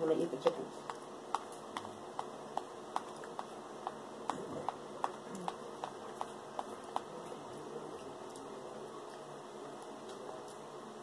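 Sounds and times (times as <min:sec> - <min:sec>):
low room noise: 0:00.0 - 0:11.0.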